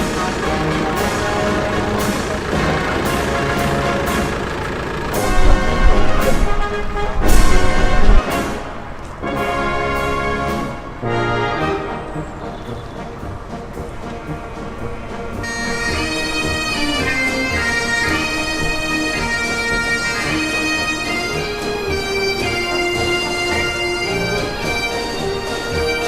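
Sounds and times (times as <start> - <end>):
bagpipes playing a tune: 0.0 - 12.8, 15.2 - 26.0.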